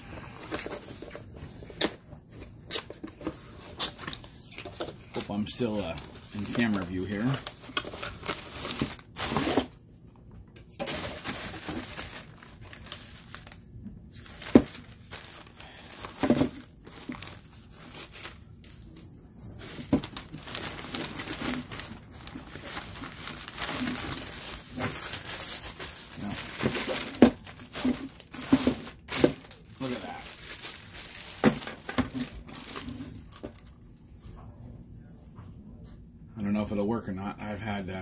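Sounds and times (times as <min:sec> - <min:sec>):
plastic packaging crinkling: 0:00.2 - 0:09.8, 0:10.7 - 0:33.8.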